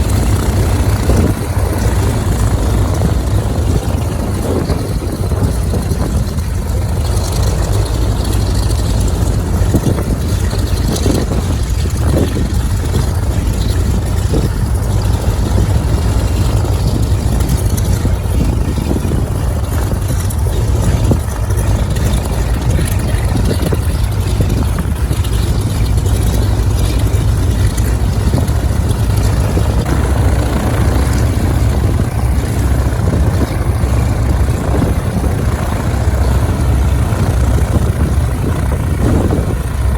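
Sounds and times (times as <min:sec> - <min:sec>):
aircraft engines idling: 0:00.0 - 0:39.9.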